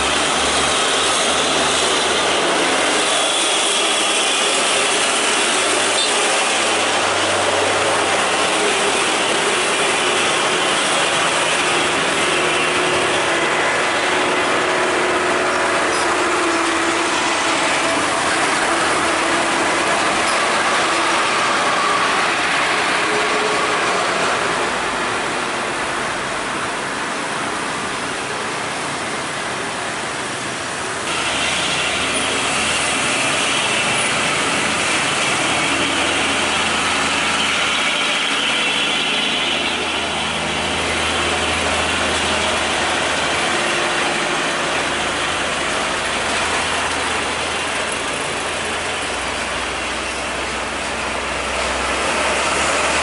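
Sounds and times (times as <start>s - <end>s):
road traffic noise: 0.0s - 53.0s
truck diesel engines running: 0.0s - 53.0s.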